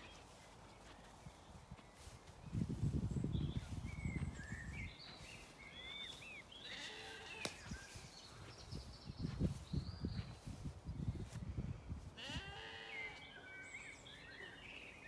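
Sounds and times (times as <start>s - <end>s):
small birds singing: 0.0s - 11.6s, 12.2s - 15.0s.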